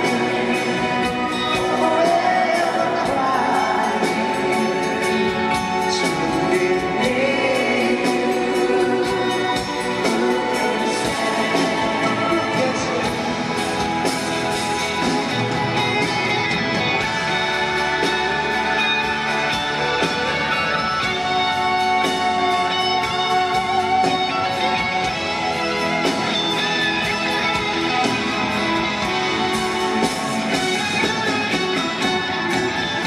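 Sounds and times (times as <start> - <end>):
live band playing rock ballad: 0.0 - 33.0.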